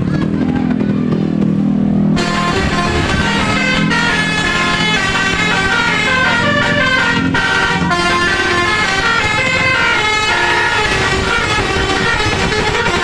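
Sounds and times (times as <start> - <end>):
bus musical horn melody: 2.0 - 13.0.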